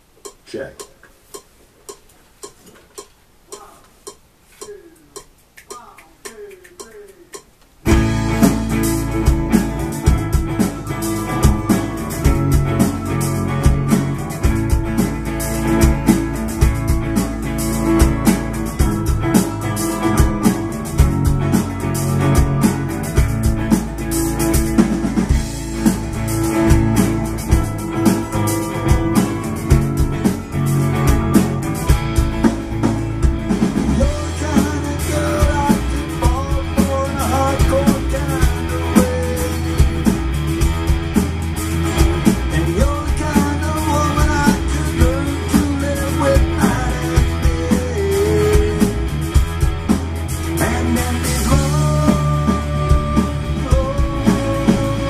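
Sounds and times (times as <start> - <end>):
drum kit groove: 0.0 - 55.0
rock band playing: 7.8 - 55.0.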